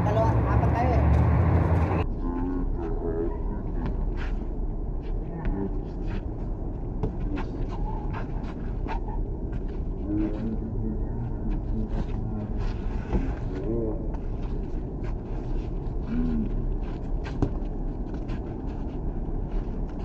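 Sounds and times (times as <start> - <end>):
steady low rumble: 0.0 - 20.0
players' footsteps: 3.7 - 20.0.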